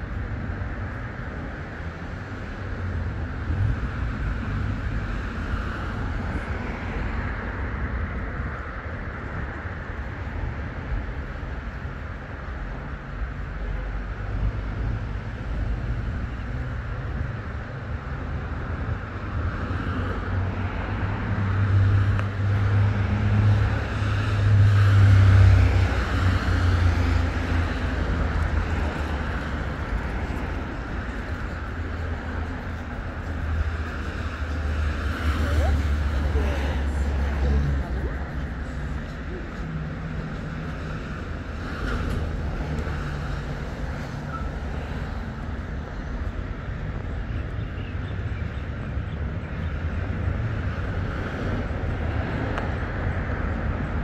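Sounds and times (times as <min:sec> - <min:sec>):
vehicle rumble: 0:00.0 - 0:54.0.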